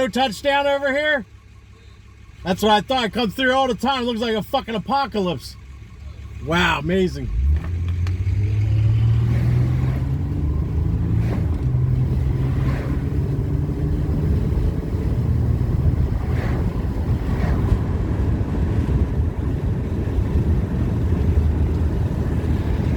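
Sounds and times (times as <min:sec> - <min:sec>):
low engine hum: 0:00.0 - 0:22.9
road noise inside a car: 0:00.0 - 0:22.9.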